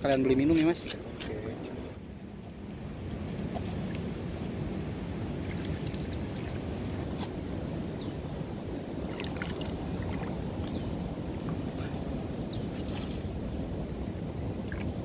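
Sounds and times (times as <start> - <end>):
moving water: 0.0 - 15.0
wind on microphone: 0.0 - 15.0.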